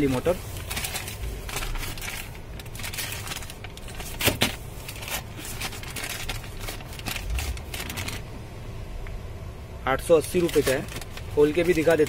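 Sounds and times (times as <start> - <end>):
plastic bag crinkling: 0.0 - 8.2, 10.3 - 12.0.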